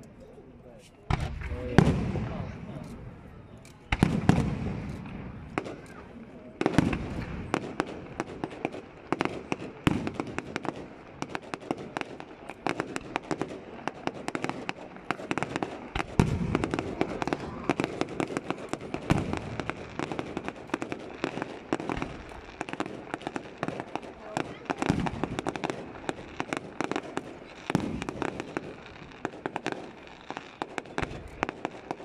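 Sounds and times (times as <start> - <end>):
fireworks crackling: 0.0 - 32.0
fireworks booms: 1.0 - 32.0.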